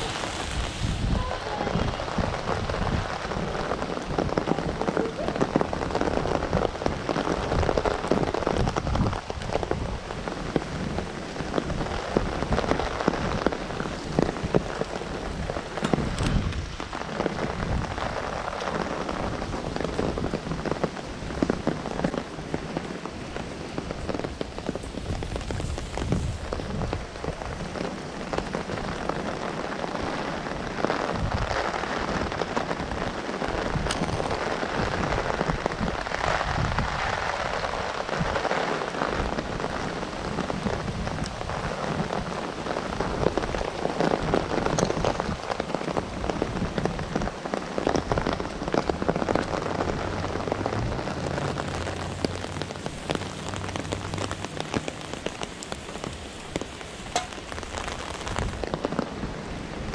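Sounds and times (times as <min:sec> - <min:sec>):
heavy rain falling: 0:00.0 - 0:59.9
wind gusts on microphone: 0:00.0 - 0:59.9.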